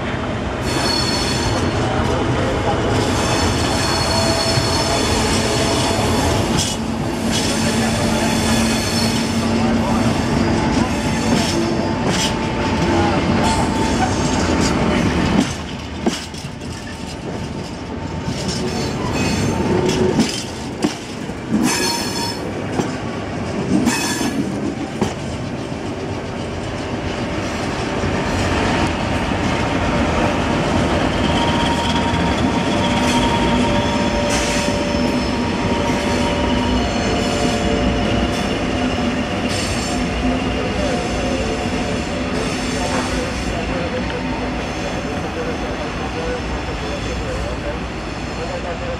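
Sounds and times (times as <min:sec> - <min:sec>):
diesel locomotive engine: 0:00.0 - 0:48.9
wheels squealing on rails: 0:00.6 - 0:02.0, 0:02.9 - 0:22.9, 0:23.8 - 0:29.0, 0:30.2 - 0:48.9.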